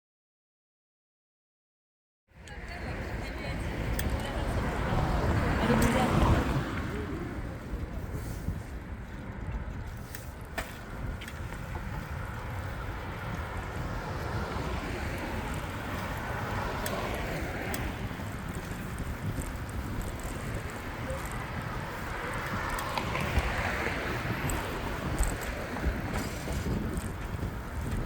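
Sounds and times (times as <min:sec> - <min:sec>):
bicycle rolling noise: 0:02.4 - 0:28.0
wind rumble on microphone: 0:02.4 - 0:28.0.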